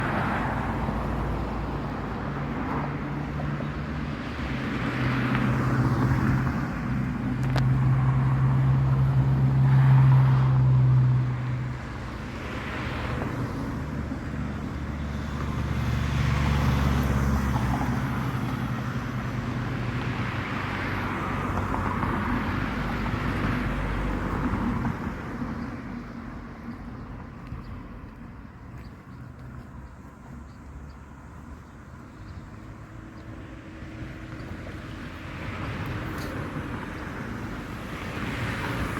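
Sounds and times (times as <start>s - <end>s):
vehicles passing by: 0.0s - 38.9s.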